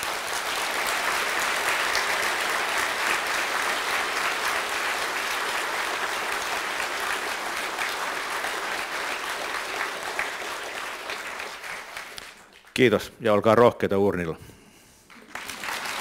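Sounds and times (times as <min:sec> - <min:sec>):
audience applauding: 0:00.0 - 0:12.8, 0:15.1 - 0:16.0.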